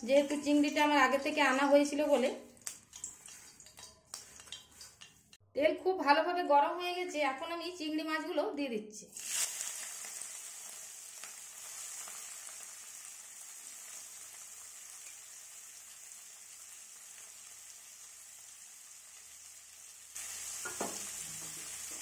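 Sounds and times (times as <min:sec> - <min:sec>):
prawns sizzling in hot oil: 0:00.0 - 0:05.4, 0:09.1 - 0:22.0.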